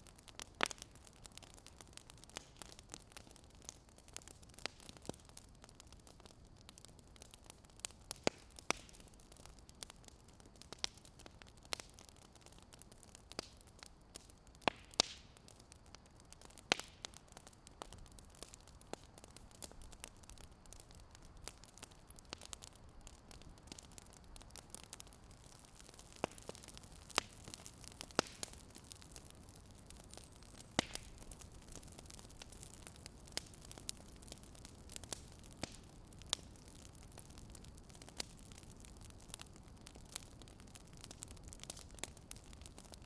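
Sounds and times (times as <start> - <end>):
faint steady hiss: 0.0 - 43.0
wood fire crackling: 0.0 - 43.0.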